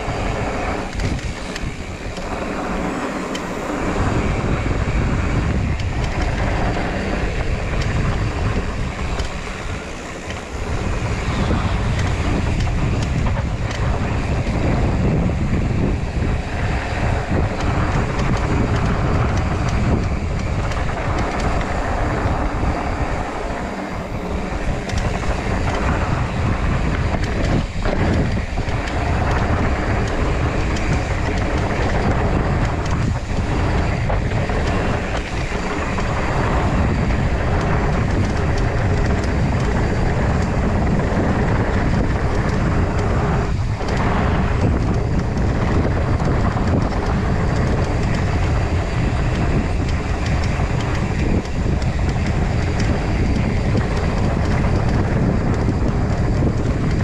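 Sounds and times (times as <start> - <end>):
bike tyres rattling on dirt: 0.0 - 57.0
wind buffeting microphone: 0.0 - 57.0.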